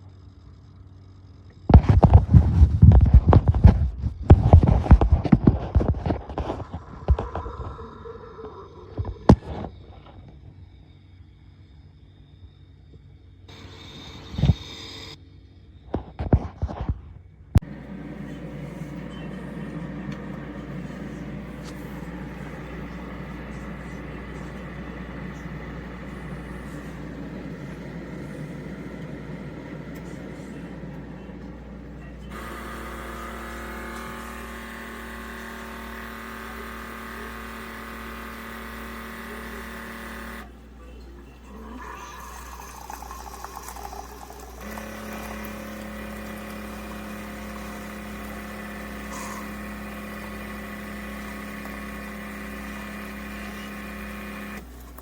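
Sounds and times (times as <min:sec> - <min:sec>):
coffee maker humming: 0:00.0 - 0:10.2, 0:13.5 - 0:15.2, 0:17.6 - 0:55.0.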